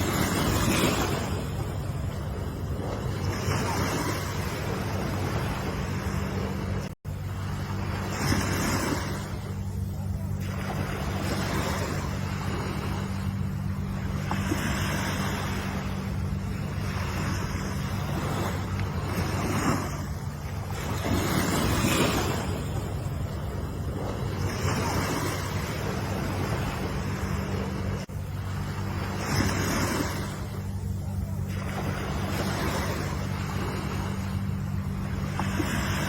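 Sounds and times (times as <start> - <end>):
ocean waves washing in: 0.0 - 36.0
steady low hum: 0.0 - 36.0.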